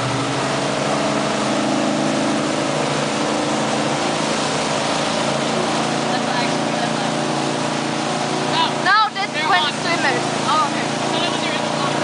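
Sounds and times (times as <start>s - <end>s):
motorboat engine running: 0.0s - 12.0s
wake water rushing: 0.0s - 12.0s
wind: 0.0s - 12.0s.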